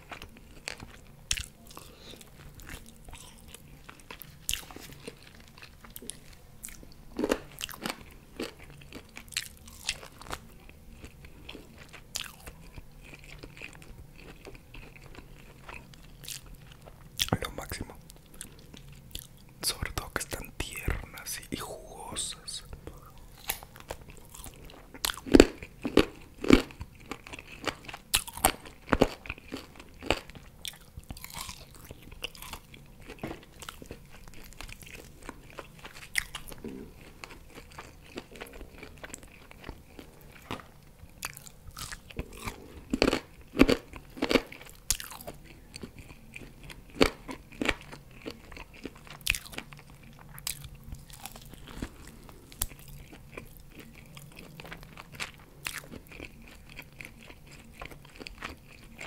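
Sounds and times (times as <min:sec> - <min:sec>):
biting and chewing ribs: 0:00.0 - 0:59.0.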